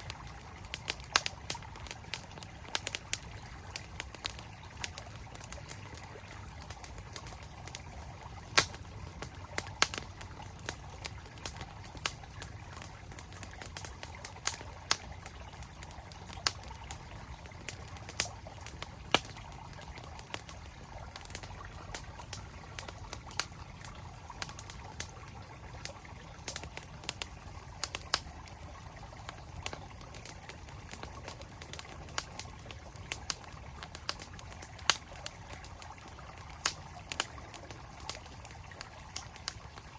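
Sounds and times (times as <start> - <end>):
campfire crackling and popping: 0.0 - 39.9
stream flowing: 0.0 - 39.9.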